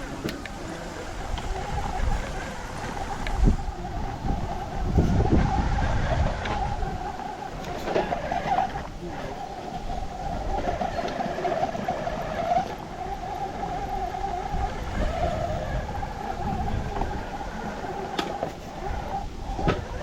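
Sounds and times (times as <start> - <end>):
electric motor and gears whining: 0.0 - 20.0.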